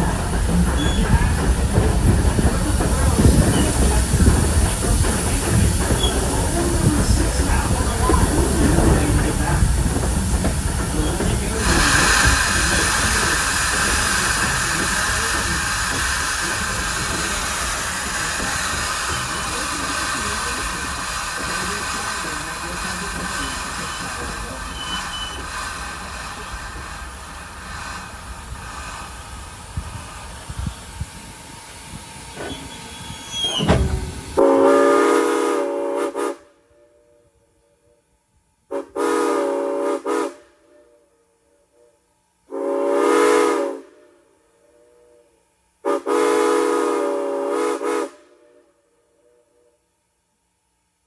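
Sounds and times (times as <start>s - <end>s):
steam locomotive rumble and hiss: 0.0s - 50.0s.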